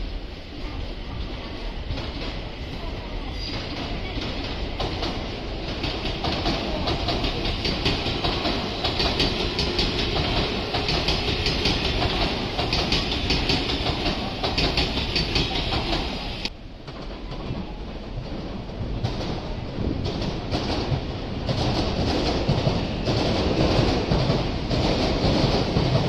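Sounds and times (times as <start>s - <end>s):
train cars rumbling: 0.0s - 26.0s
train wheels clattering: 1.9s - 26.0s.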